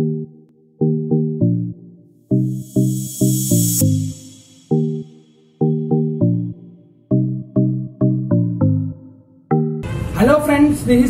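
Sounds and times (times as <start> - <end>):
synth notes: 0.0 - 10.3.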